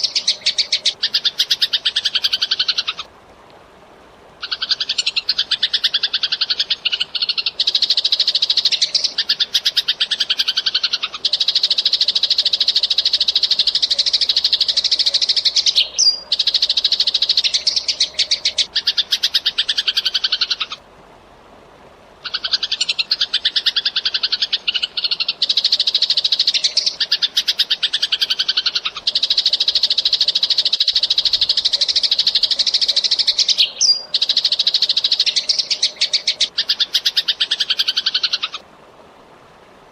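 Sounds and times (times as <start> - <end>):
sparrow chirping: 4.4 - 20.8, 22.2 - 38.6.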